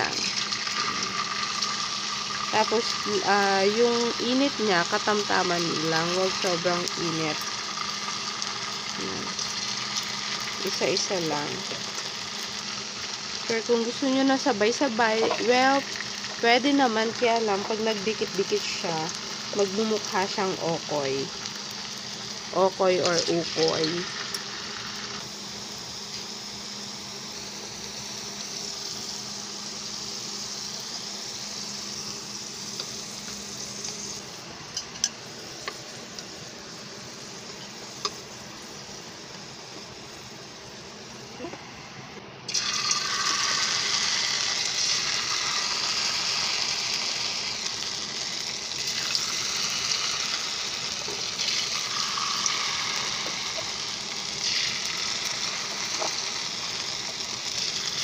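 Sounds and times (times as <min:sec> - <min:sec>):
fries sizzling in hot oil: 0:00.0 - 0:41.9, 0:42.5 - 0:58.0.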